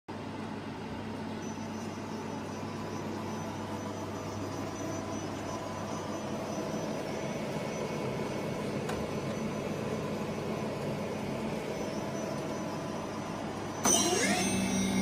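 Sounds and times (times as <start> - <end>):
electrical hum tones: 0.1 - 15.0
spindle motor whirring hum: 0.1 - 15.0.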